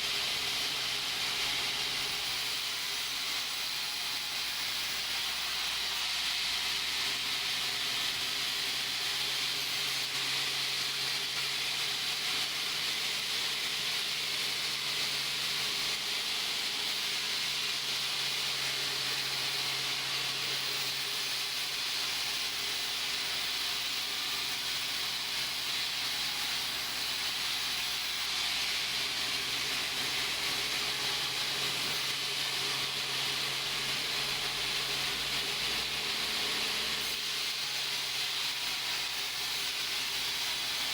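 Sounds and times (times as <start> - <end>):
sawmill machinery hissing: 0.0 - 40.9.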